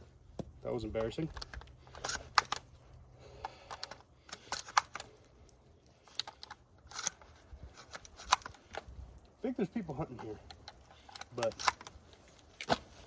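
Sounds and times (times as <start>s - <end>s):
shotgun shells clicking and rattling: 0.4s - 12.2s.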